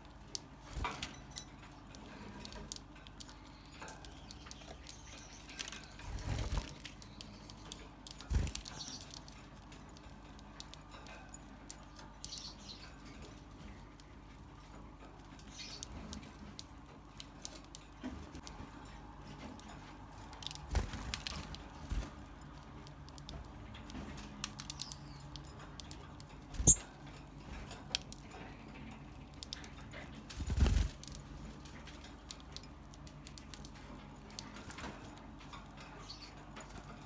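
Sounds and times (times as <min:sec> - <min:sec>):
light clicks and taps of birds: 0:00.0 - 0:37.0.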